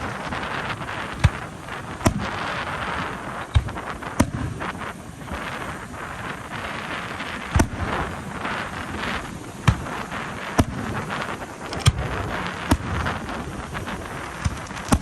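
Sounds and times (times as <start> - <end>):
fireworks bangs: 0.0 - 15.0
steady rushing background: 0.0 - 15.0.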